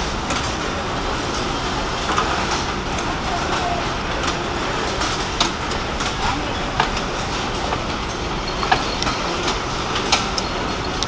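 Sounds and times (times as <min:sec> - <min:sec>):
factory machines clattering: 0:00.0 - 0:11.0
sharp machine clacks: 0:00.0 - 0:11.0.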